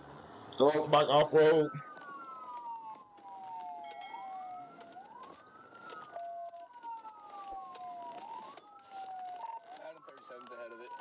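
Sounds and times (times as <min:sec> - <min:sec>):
police siren wailing: 0:00.1 - 0:11.0.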